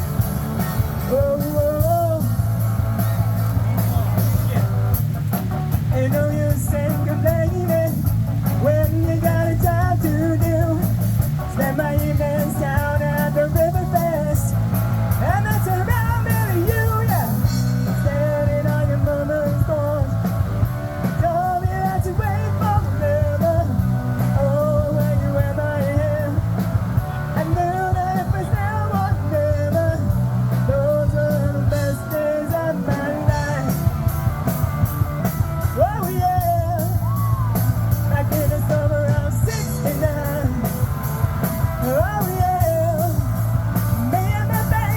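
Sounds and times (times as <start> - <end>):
person singing lead vocal: 0.0 - 3.3, 5.7 - 34.6, 35.6 - 44.9
drums: 0.0 - 44.9
electric guitar: 0.0 - 44.9.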